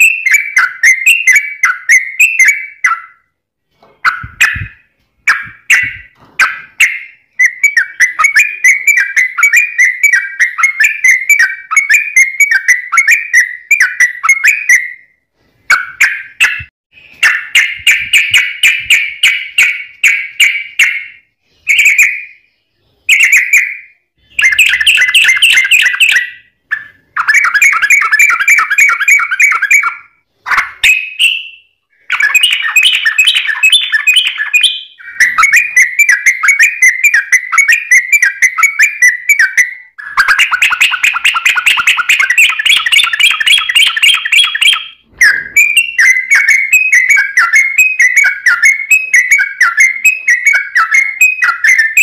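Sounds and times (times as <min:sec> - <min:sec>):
bird singing whistled chattering: 0:00.0 - 0:03.3, 0:04.0 - 0:52.0.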